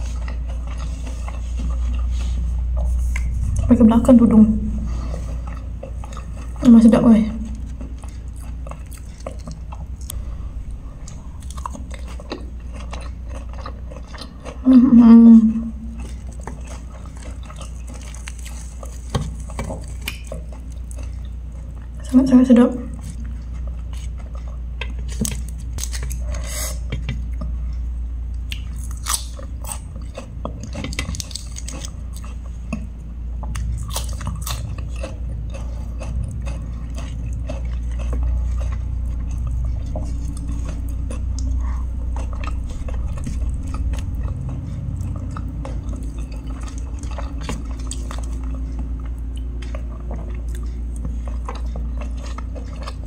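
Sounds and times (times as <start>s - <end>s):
person chewing and crunching: 0.0s - 53.0s
steady low hum: 0.0s - 53.0s.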